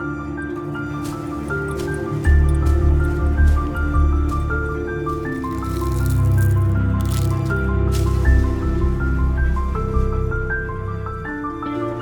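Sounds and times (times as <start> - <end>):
deep sustained bass: 2.2 - 12.0.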